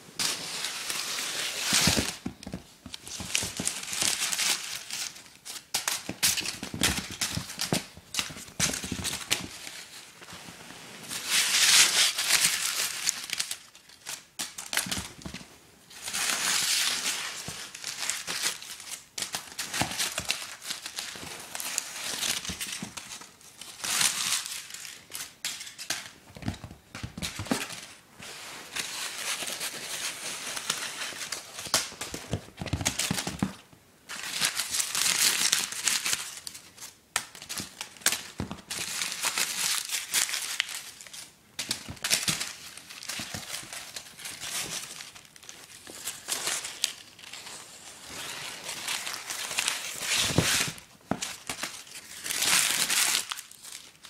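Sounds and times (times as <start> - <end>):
paper crinkling and rustling: 0.0 - 54.0.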